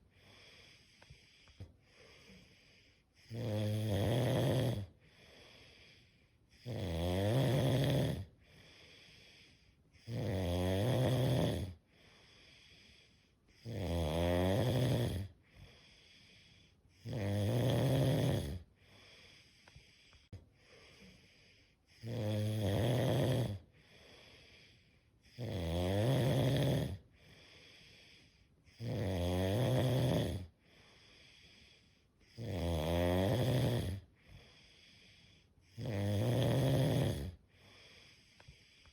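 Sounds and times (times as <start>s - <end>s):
quiet breathing: 0.0s - 13.8s, 14.6s - 22.5s, 23.1s - 25.5s, 26.2s - 29.0s, 29.8s - 32.5s, 33.3s - 38.9s
person snoring: 0.2s - 38.9s.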